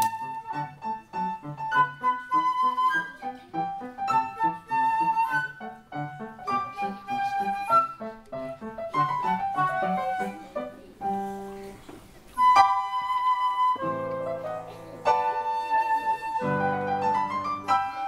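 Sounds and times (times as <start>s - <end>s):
flute melody: 0.0s - 10.5s, 12.3s - 18.0s
piano accompaniment: 0.0s - 18.0s.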